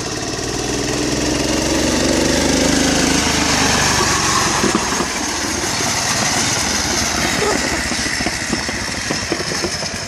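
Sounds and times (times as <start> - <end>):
garden tractor engine running: 0.0 - 10.0.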